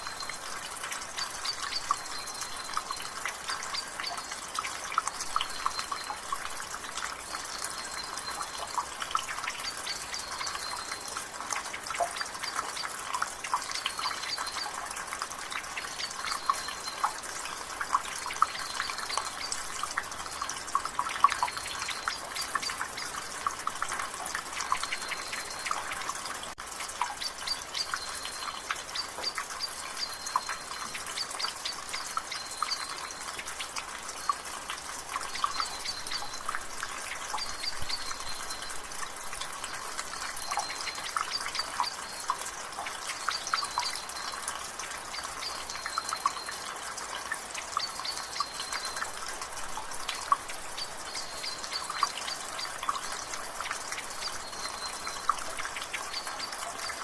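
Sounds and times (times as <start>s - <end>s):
light rain hiss: 0.0s - 57.0s
water dripping from gutter: 0.0s - 57.0s.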